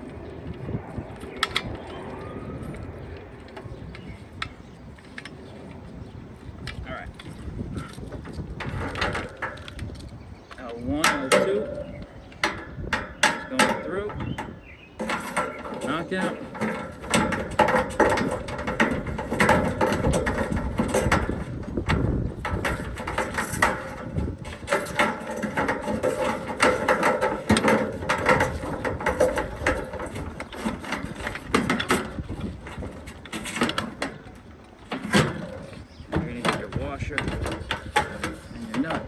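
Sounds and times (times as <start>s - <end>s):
clicks and scrapes of wiring: 6.4s - 39.0s.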